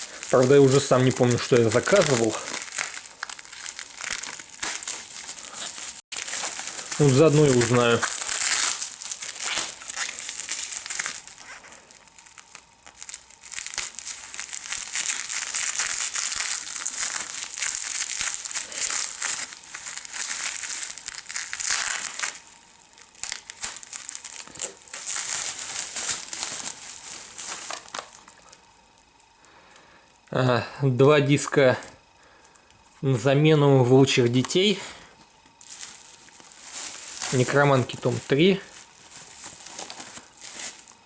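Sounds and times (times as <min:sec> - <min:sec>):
packaging crinkling and rustling: 0:00.0 - 0:29.3, 0:34.0 - 0:41.0.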